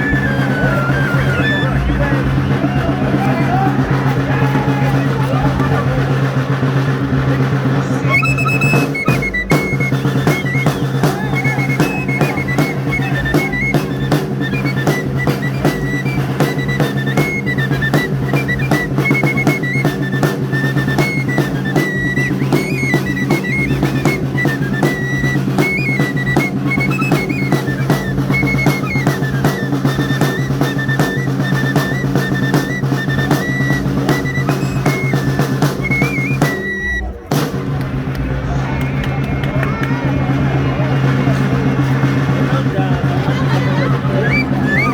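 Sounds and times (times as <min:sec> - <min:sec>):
high flute melody: 0:00.0 - 0:06.7, 0:07.4 - 0:44.9
fast drum beat: 0:00.0 - 0:44.9.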